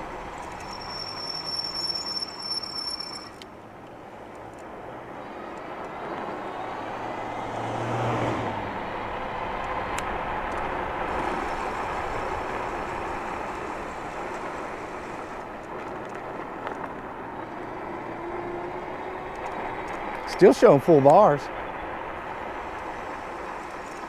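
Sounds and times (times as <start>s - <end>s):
tyres rolling on pavement: 0.0s - 24.0s.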